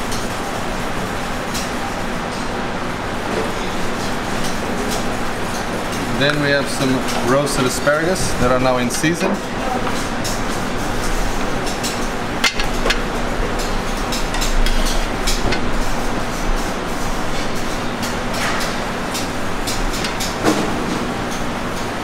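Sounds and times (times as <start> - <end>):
ventilation hum: 0.0 - 22.0
utensils and dishes clattering: 3.3 - 21.9.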